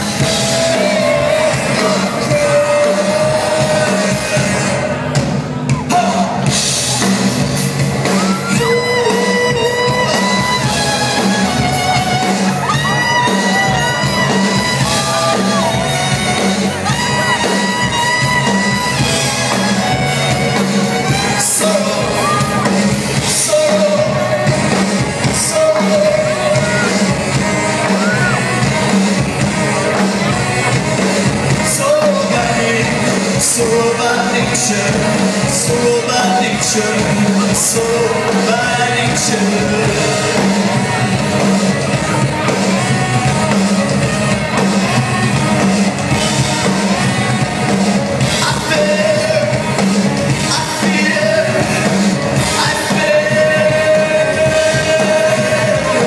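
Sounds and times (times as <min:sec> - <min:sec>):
man singing: 0:00.0 - 0:07.0, 0:08.0 - 0:56.0
drums: 0:00.0 - 0:56.0
live band playing: 0:00.0 - 0:56.0.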